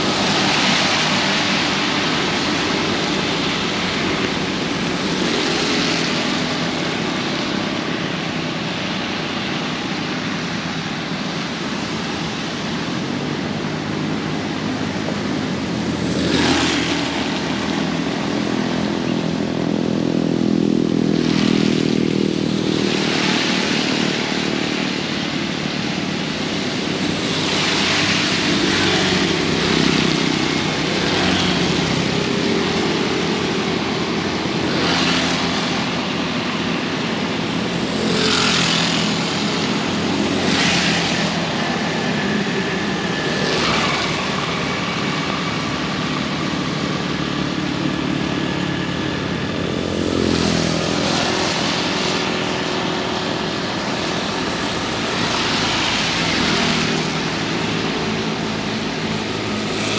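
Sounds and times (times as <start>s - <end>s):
heavy rain pouring: 0.0s - 19.9s, 20.5s - 59.9s
vehicle engines running: 0.0s - 59.9s
vehicles swishing past on wet road: 0.0s - 59.9s.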